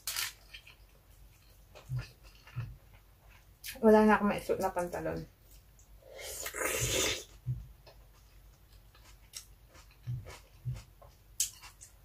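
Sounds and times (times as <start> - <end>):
chewing: 0.1 - 3.8, 5.5 - 12.0.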